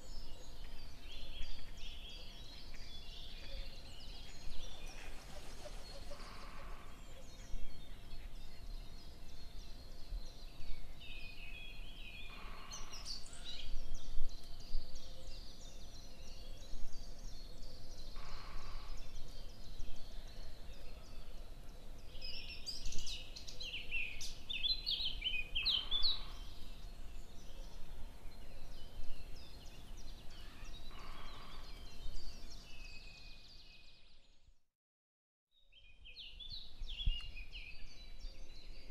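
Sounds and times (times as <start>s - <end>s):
small birds chirping and twittering: 0.0s - 34.6s, 35.5s - 38.9s
steady outdoor background: 0.0s - 34.7s, 35.6s - 38.9s.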